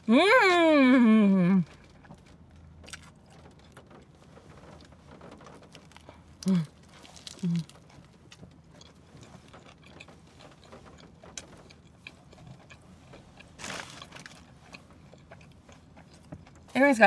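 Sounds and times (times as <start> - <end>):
chewing crispy food: 1.6 - 16.8.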